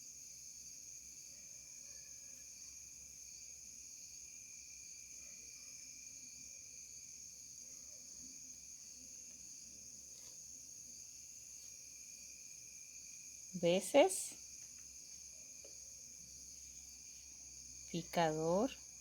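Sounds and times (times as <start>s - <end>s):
low background noise: 2.2s - 19.0s.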